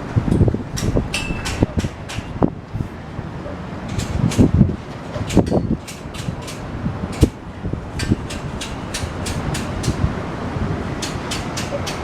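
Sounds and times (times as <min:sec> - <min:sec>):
storm wind and rain rushing: 0:00.0 - 0:12.0.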